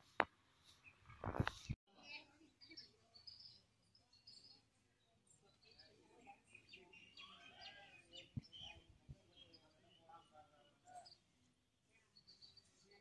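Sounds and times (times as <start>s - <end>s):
bird chirps: 0.7s - 11.3s.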